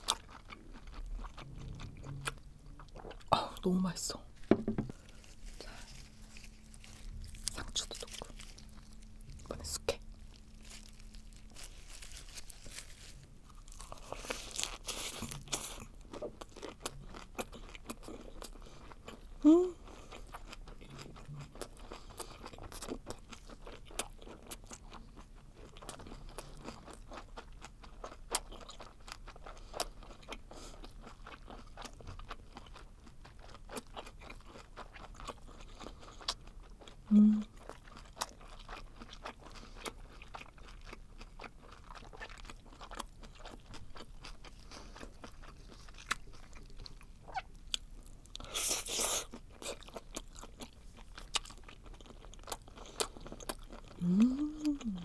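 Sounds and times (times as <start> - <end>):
wet chewing: 0.0 - 3.3, 5.0 - 19.3, 20.0 - 55.0.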